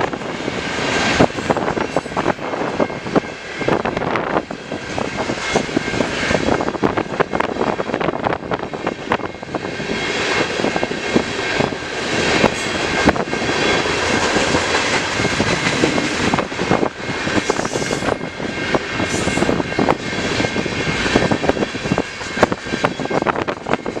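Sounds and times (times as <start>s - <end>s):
freight train wheels rolling: 0.1s - 24.0s.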